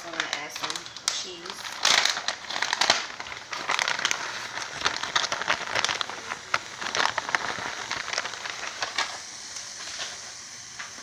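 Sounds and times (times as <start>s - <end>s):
shredded cheese poured from bag: 0.0s - 9.2s
butter and milk sizzling: 0.0s - 11.0s.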